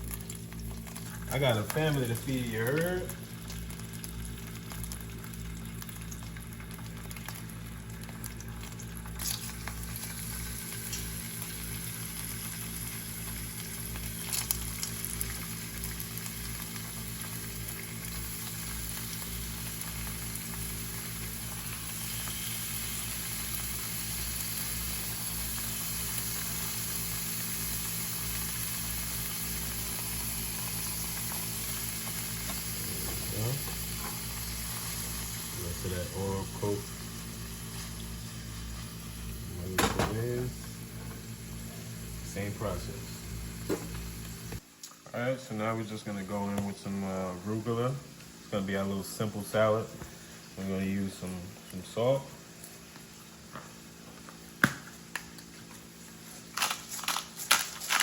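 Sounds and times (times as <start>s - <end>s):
fish frying in hot oil: 0.0s - 58.0s.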